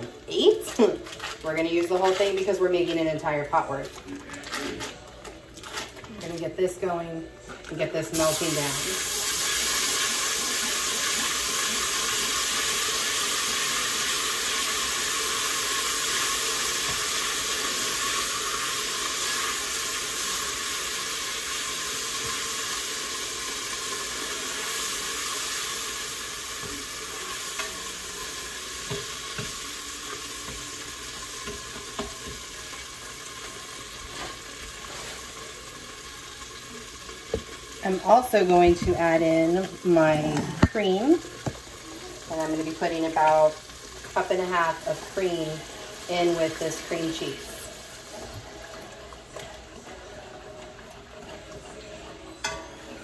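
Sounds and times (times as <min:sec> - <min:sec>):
butter sizzling in a pot: 0:00.0 - 0:53.0.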